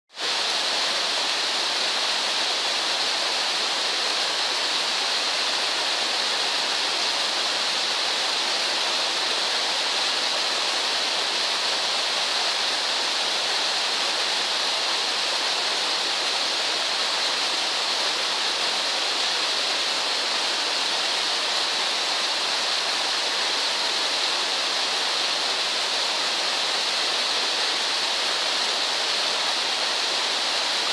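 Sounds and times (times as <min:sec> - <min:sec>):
water rushing down waterfall: 0:00.1 - 0:30.9.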